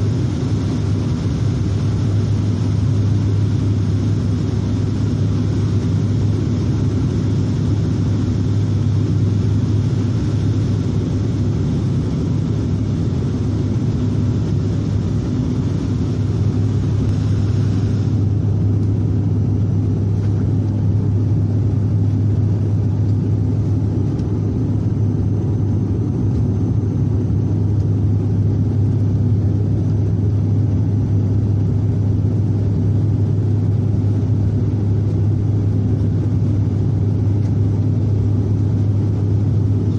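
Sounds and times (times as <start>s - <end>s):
low propeller drone: 0.0s - 39.9s
rush of engine and airflow: 0.0s - 39.9s.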